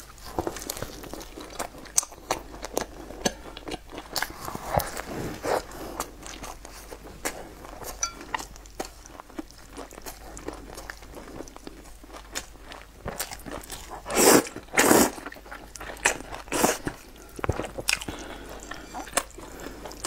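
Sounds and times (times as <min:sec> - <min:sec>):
crunchy bread chewing: 0:00.0 - 0:20.0.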